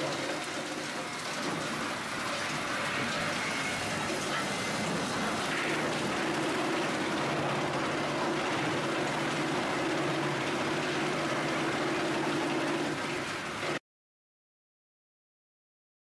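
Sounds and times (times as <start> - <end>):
wood chipper running: 0.0 - 13.8.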